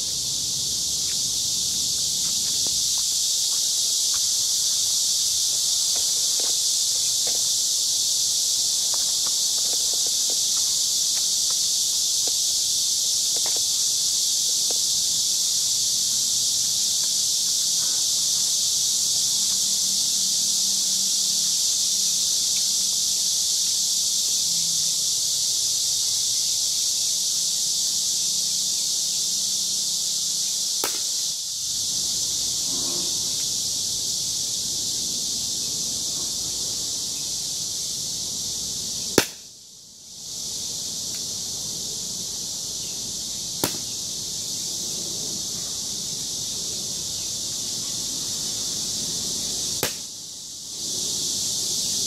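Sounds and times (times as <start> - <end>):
high-pitched insect chorus: 0.0 - 52.0.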